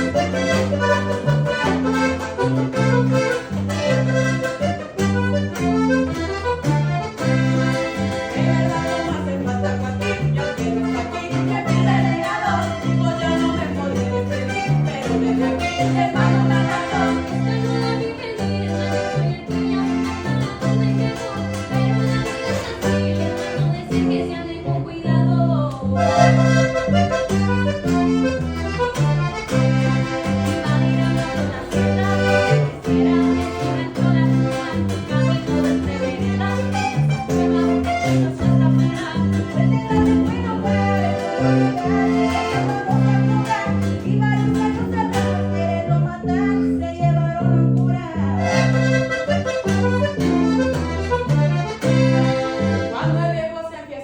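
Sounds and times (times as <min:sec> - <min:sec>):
bass line: 0:00.0 - 0:53.6
strummed guitar: 0:00.0 - 0:53.7
button accordion melody: 0:00.0 - 0:54.0.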